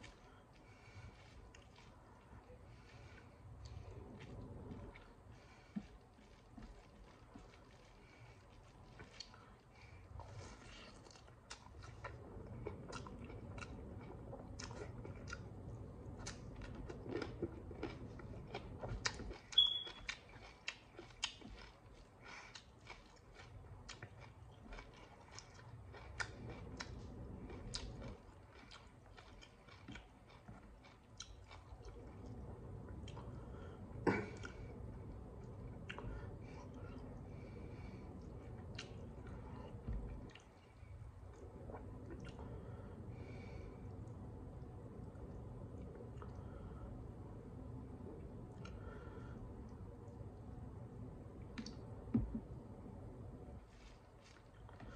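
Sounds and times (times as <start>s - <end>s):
person chewing food: 0.0s - 46.7s, 53.7s - 54.9s.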